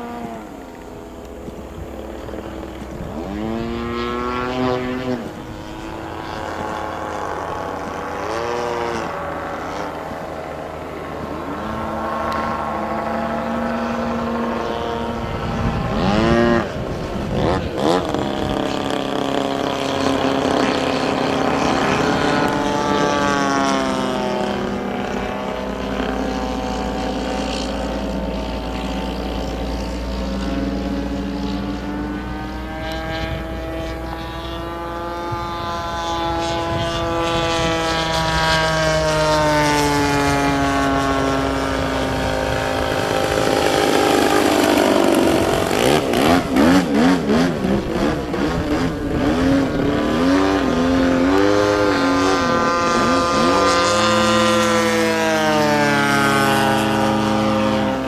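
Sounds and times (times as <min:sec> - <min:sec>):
model airplane engine: 0:00.0 - 0:58.0.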